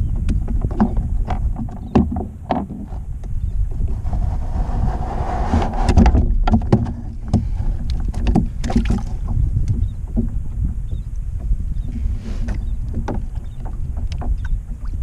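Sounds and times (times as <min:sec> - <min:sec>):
water splashing against kayak hull: 0:00.0 - 0:15.0
wind rumble on microphone: 0:00.0 - 0:15.0.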